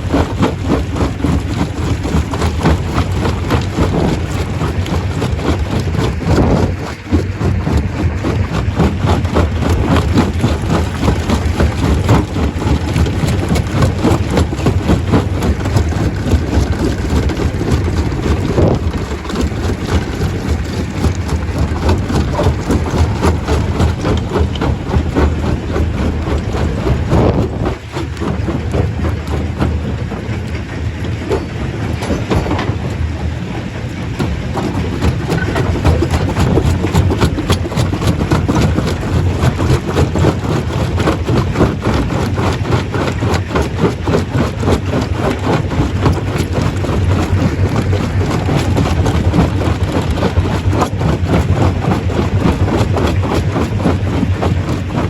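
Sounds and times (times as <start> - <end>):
stone crusher rumbling and clattering: 0.0 - 55.0.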